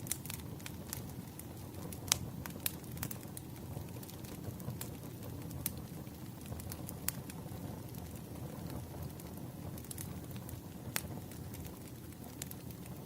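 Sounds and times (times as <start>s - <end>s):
fire rumbling: 0.0s - 13.0s
firewood crackling and popping: 0.0s - 13.0s.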